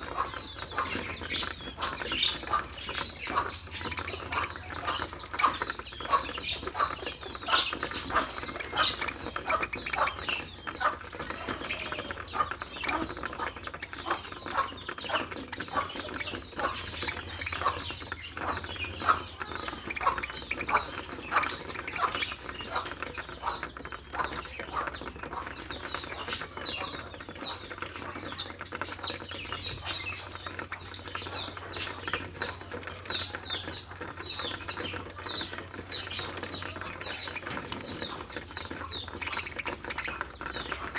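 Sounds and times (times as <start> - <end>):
budgerigar chattering: 0.0 - 40.9.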